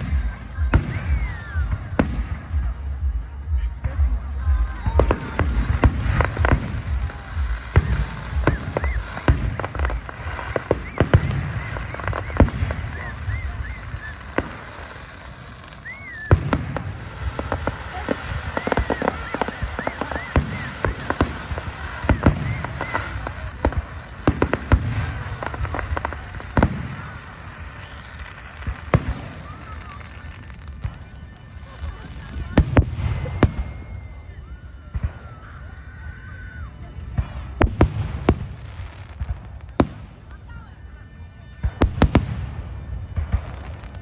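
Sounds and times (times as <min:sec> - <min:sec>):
fireworks bangs and crackles: 0:00.0 - 0:44.0
fireworks low booms: 0:00.0 - 0:44.0
fireworks whistling: 0:00.0 - 0:44.0.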